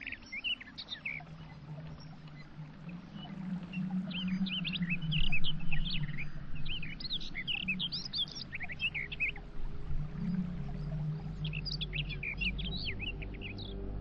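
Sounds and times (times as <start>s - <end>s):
small birds chirping: 0.0s - 14.0s
low hum: 0.9s - 14.0s.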